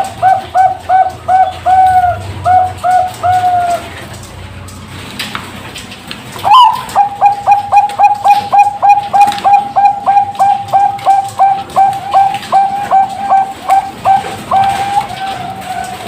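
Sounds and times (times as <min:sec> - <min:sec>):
dove cooing: 0:00.0 - 0:04.1, 0:06.4 - 0:16.0.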